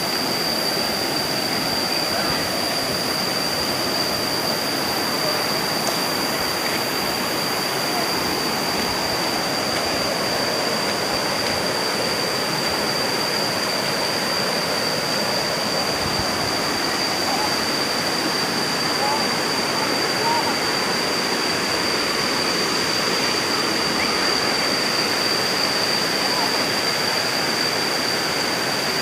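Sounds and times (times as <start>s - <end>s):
constant high-pitched tone: 0.0s - 29.0s
river rapids rushing: 0.0s - 29.0s.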